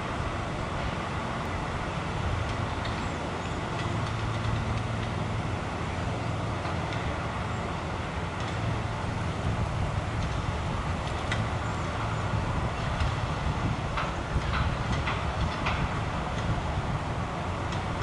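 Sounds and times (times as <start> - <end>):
leaf vacuum engine and fan: 0.0 - 18.0.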